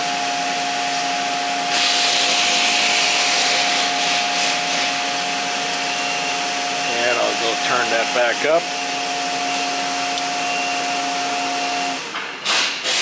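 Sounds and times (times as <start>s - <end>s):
cooling fan hum: 0.0s - 13.0s.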